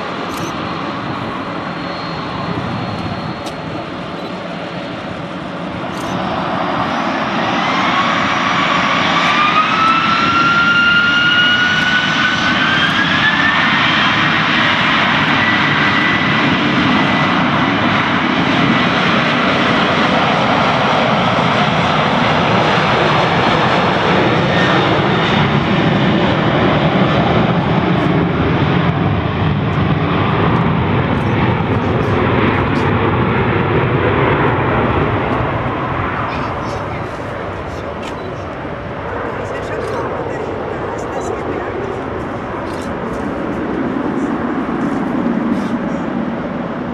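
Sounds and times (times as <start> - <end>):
jet engines spooling up: 0.0 - 46.9
loud jet noise: 0.0 - 46.9.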